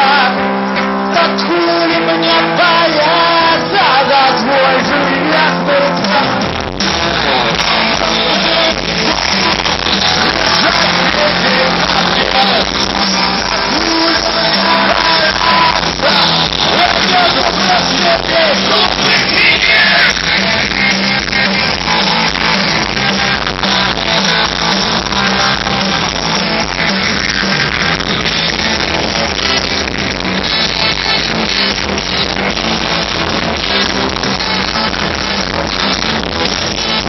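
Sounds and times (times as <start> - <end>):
crowd noise: 0.0 - 37.0
live rock band: 0.0 - 37.0.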